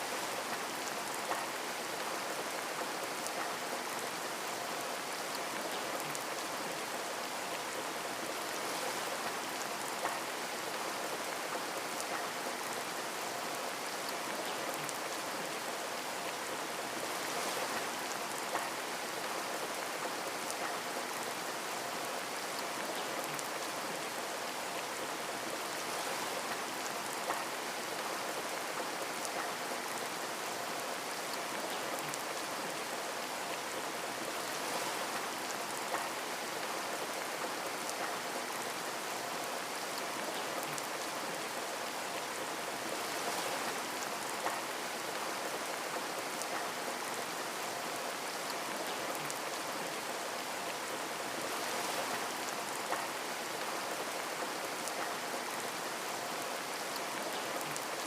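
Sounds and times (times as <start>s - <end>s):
rain pattering on a window: 0.1s - 58.0s.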